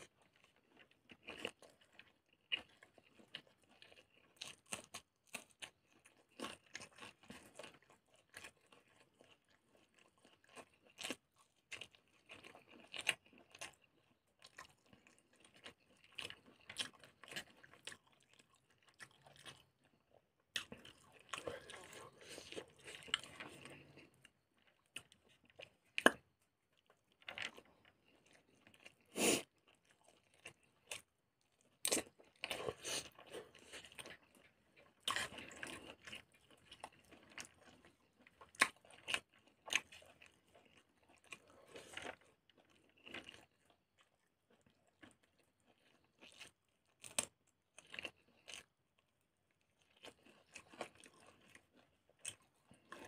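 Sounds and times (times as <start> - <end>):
chewing and crunching: 0.0 - 53.0.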